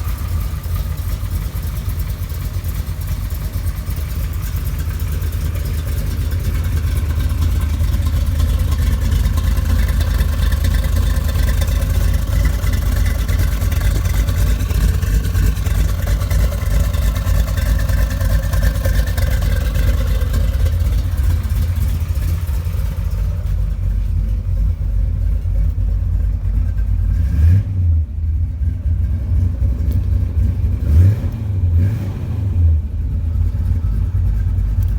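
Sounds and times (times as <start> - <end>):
engine idling deep and lumpy: 0.0 - 34.9.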